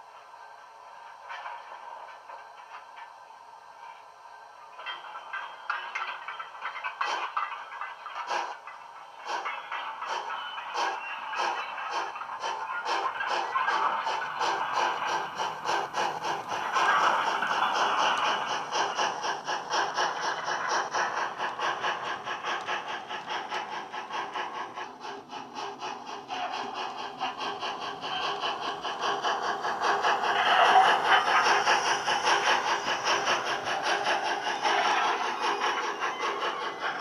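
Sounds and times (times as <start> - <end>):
model train steam chuffs: 0.0 - 37.0.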